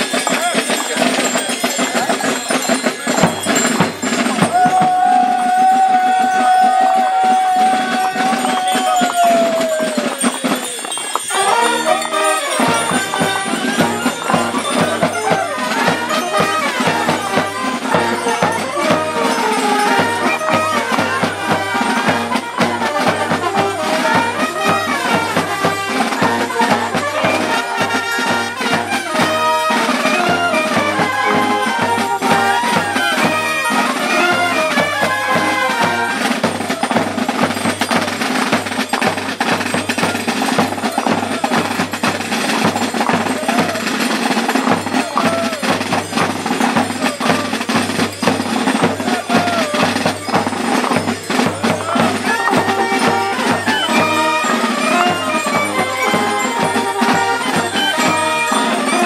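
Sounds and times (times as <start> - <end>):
drum strokes: 0.0 - 59.0
marching band playing: 0.0 - 59.0.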